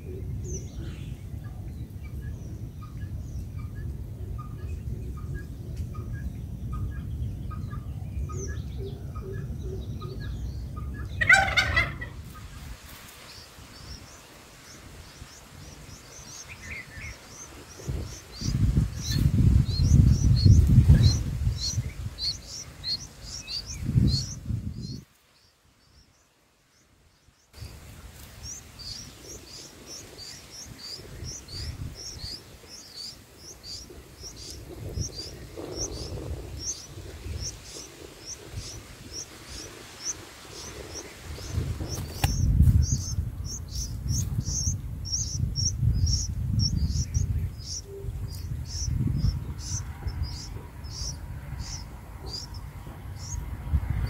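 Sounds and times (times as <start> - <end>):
nestlings begging chirps: 0.2 - 54.0.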